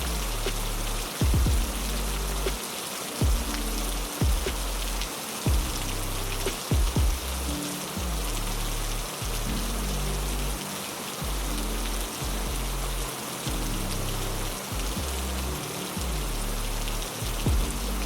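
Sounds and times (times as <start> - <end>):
heavy rain hiss: 0.0 - 18.0
slow low music with deep notes: 0.0 - 18.0.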